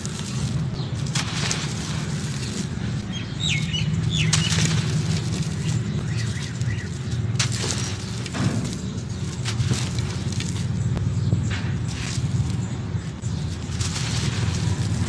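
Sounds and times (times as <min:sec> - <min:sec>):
dry soil crunching and crumbling: 0:00.0 - 0:15.0
soil chunks cracking: 0:00.0 - 0:15.0
bird chirps: 0:02.2 - 0:14.9.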